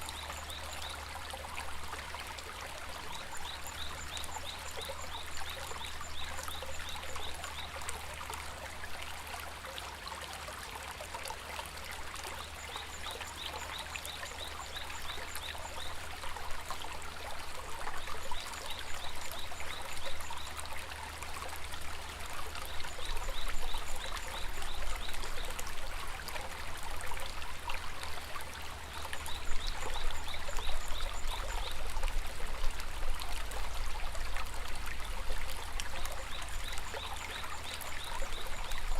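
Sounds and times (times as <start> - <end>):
river water babbling over stones: 0.0 - 38.9.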